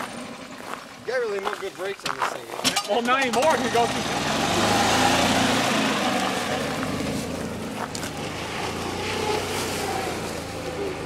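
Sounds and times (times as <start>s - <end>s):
golf cart engine running: 0.0s - 2.0s, 2.6s - 11.0s.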